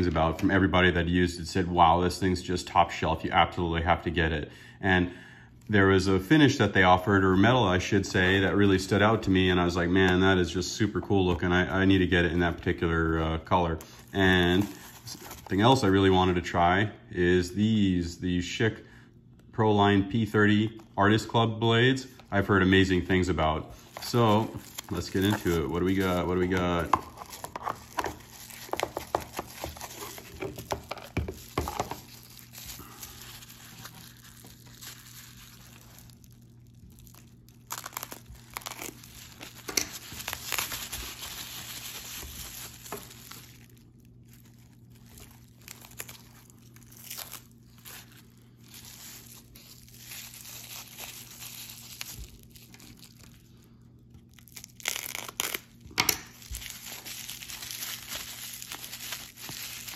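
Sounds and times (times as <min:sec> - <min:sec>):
bubble wrap crinkling: 0:05.6 - 0:16.3, 0:20.1 - 0:59.9.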